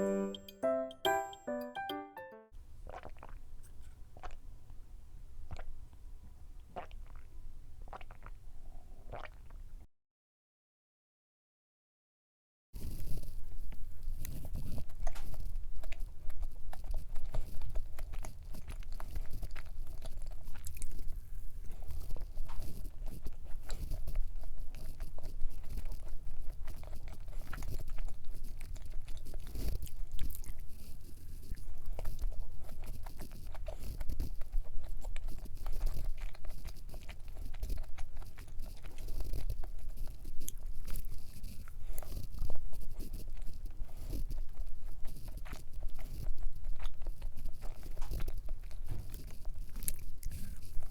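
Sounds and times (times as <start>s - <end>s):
chewing and crunching cookie: 2.8s - 9.8s, 12.8s - 50.9s.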